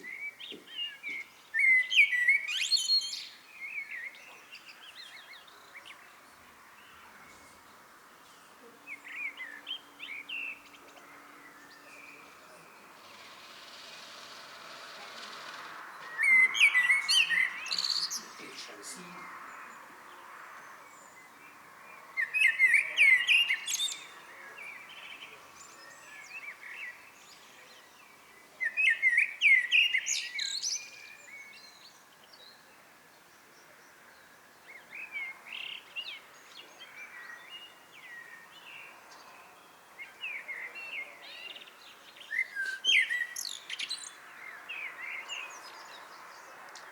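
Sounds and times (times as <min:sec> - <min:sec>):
blackbird singing: 0:00.0 - 0:46.9.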